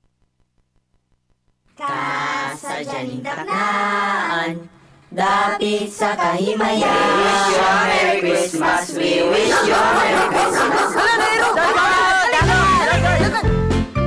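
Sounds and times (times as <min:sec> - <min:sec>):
voices singing drawn-out notes: 0:01.8 - 0:13.5.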